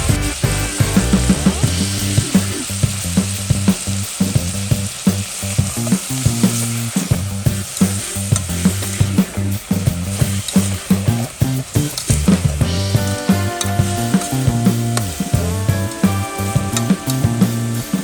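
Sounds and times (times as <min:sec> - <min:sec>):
food sizzling in a pan: 0:00.0 - 0:18.0
utensil clicking against pan: 0:02.0 - 0:17.4.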